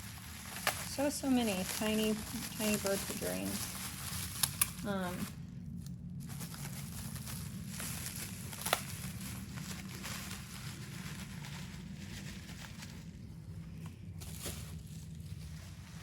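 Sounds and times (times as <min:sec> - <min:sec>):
packaging rustling: 0:00.0 - 0:13.2
steady low hum: 0:00.0 - 0:16.0.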